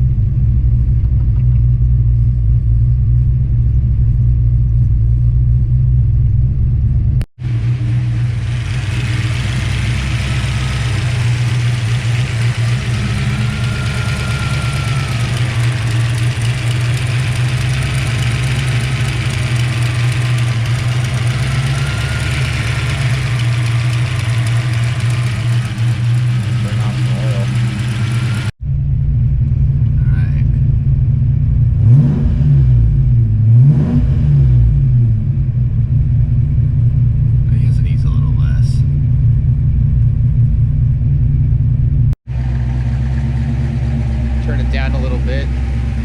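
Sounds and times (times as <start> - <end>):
v-eight engine idling: 0.0 - 31.8, 35.5 - 46.0.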